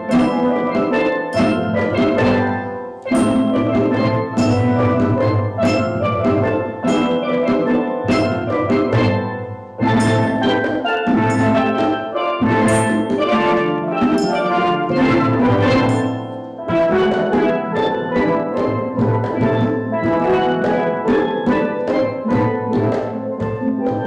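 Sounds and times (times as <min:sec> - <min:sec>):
steel drum band playing: 0:00.0 - 0:24.0.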